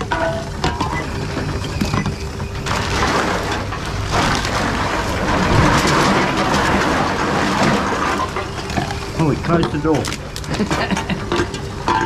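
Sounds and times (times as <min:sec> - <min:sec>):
machine crushing cans and bottles: 0:00.0 - 0:12.0.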